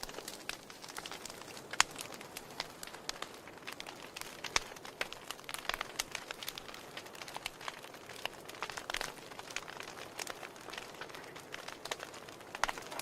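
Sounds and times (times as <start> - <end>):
burning logs popping: 0.0 - 13.0
wood fire crackling: 0.0 - 13.0.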